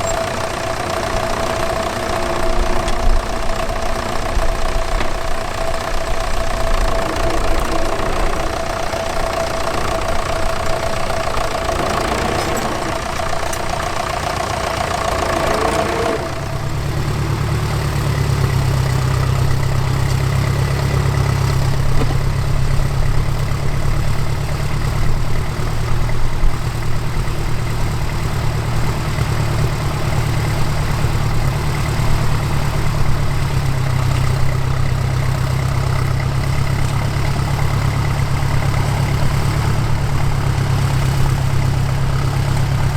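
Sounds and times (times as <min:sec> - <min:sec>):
tractor engines running: 0:00.0 - 0:42.9.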